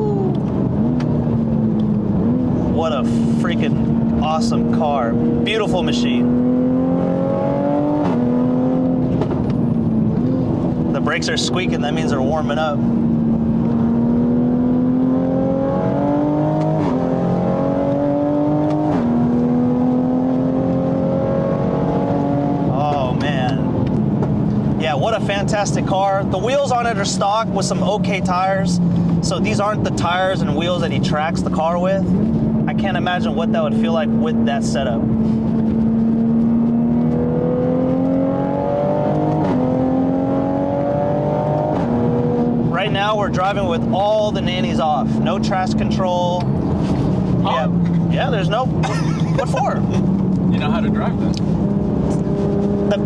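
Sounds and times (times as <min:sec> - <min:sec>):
turbocharged car engine accelerating: 0:00.0 - 0:53.0.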